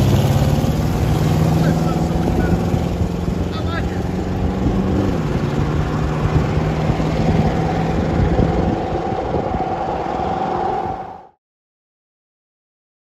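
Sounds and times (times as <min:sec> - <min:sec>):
pickup engine pulling away: 0:00.0 - 0:11.1
cars passing: 0:00.0 - 0:11.4.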